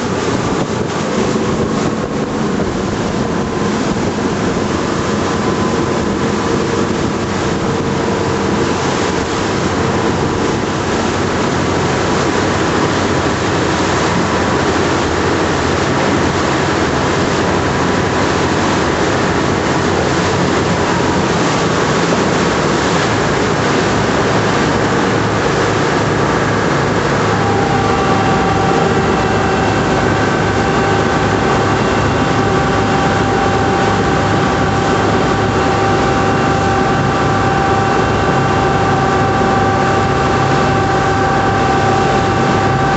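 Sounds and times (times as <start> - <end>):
boat engine drone: 0.0 - 42.9
rushing water: 0.0 - 42.9
wind noise: 0.0 - 42.9.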